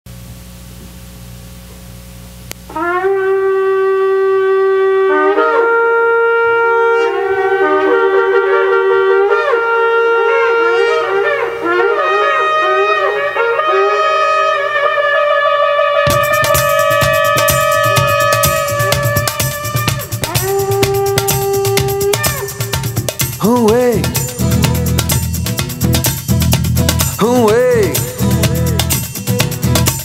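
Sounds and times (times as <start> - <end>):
reedy wind instrument melody: 2.7 - 30.0.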